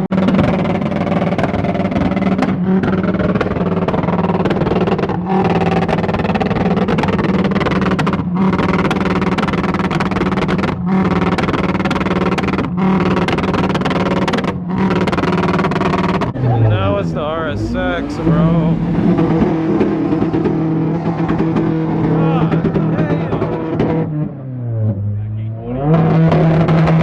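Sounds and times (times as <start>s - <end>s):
car engine droning loudly: 0.0s - 27.0s.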